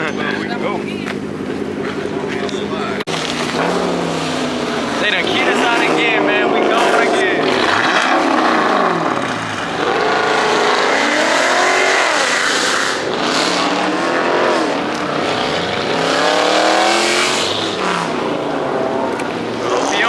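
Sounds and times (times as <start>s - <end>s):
car engines accelerating: 0.0s - 20.0s.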